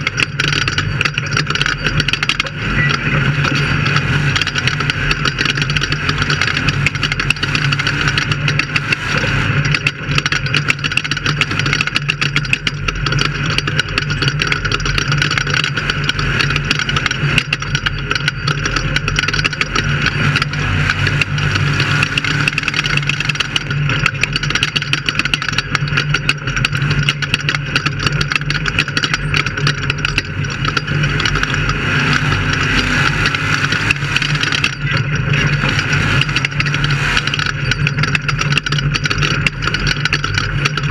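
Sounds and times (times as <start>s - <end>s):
race vehicle engine droning: 0.0s - 40.9s.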